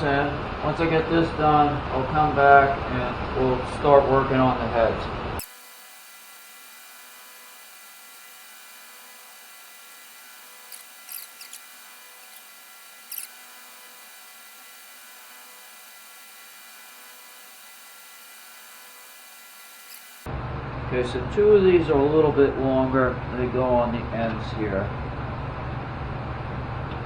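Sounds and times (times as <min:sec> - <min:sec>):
faint hum tones: 0:00.0 - 0:27.0.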